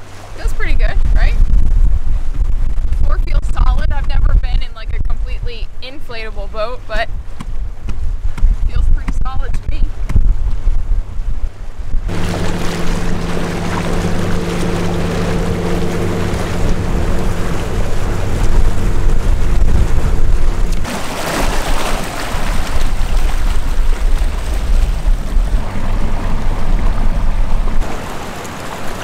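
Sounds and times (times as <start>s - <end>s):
steady low hum: 0.0s - 21.0s, 22.8s - 28.4s
water rushing around a dinghy: 0.0s - 29.0s
wind rumbling on microphone: 0.0s - 29.0s.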